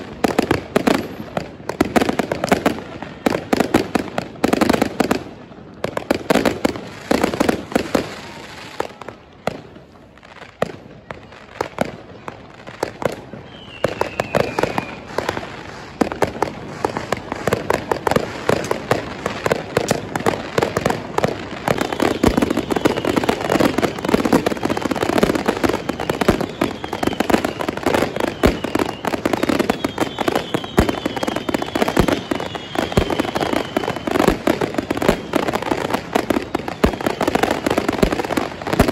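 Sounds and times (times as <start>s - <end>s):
fireworks bangs and crackling: 0.0s - 38.9s
whistling firework: 0.0s - 38.9s.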